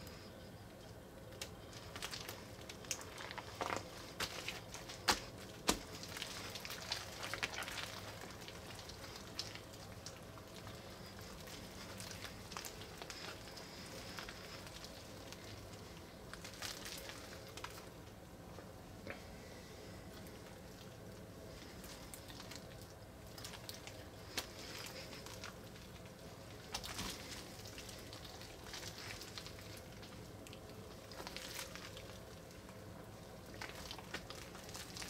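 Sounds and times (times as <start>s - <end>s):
slime crackling: 1.2s - 18.3s, 19.4s - 35.0s
slime squelching and popping: 1.3s - 18.1s, 20.1s - 35.0s.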